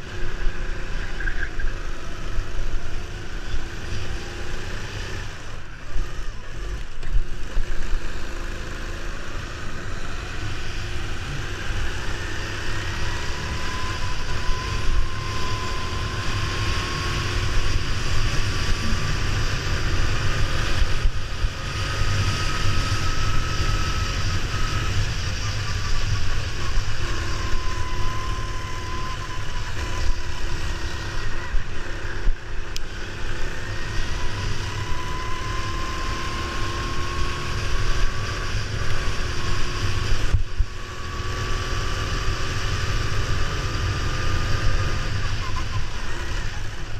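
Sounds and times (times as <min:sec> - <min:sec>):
go-kart engine running: 0:00.0 - 0:46.9.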